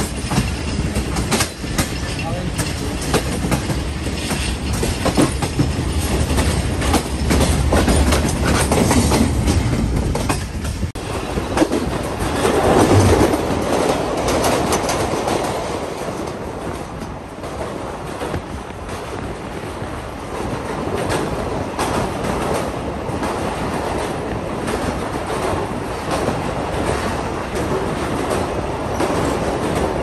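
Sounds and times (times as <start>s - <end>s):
train rumble and track noise: 0.0s - 30.0s
train wheels clacking over rail joints: 0.0s - 30.0s.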